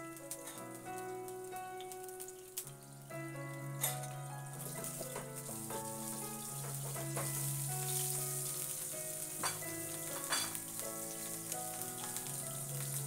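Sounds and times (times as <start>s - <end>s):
background music with held notes: 0.0s - 13.0s
butter sizzling in frying pan: 0.0s - 13.0s.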